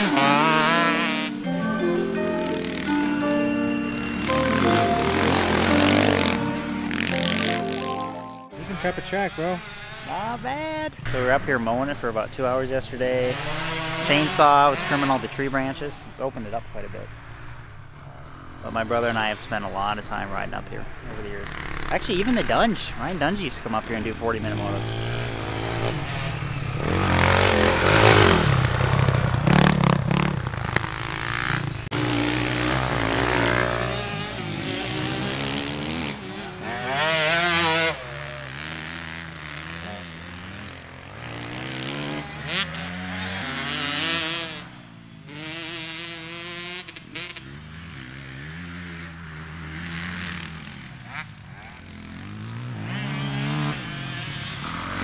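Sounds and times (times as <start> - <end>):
dirt bike engines revving: 0.0 - 1.4, 4.0 - 11.7, 12.5 - 20.3, 20.9 - 55.0.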